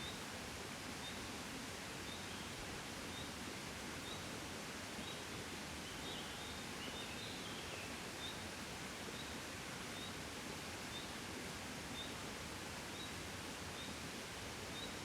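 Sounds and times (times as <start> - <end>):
soft wind hiss and rustle: 0.0 - 15.0.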